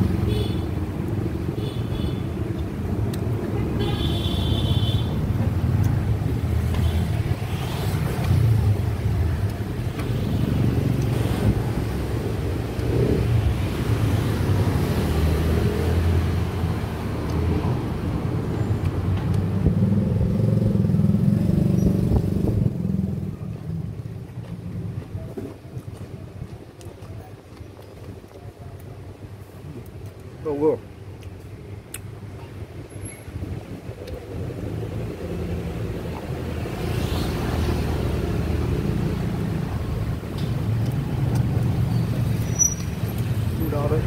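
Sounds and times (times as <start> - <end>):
vehicle engines passing: 0.0 - 44.0.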